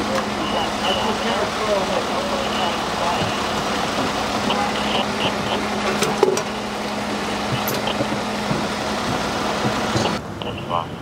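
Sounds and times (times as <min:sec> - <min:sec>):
low hum: 0:00.0 - 0:11.0
street noise: 0:00.0 - 0:11.0
vehicle engine idling: 0:00.0 - 0:11.0.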